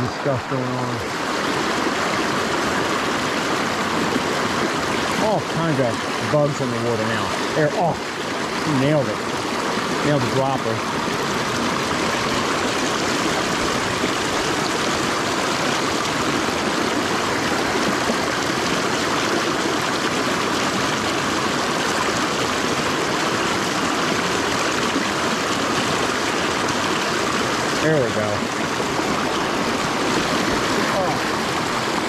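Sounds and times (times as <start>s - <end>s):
stream rushing over rocks: 0.0s - 32.0s.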